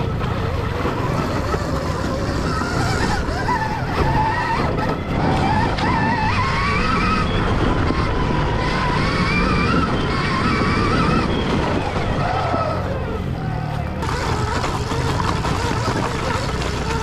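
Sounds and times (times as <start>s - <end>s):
electric motor whine: 0.0s - 17.0s
rumble of wind and tyres: 0.0s - 17.0s.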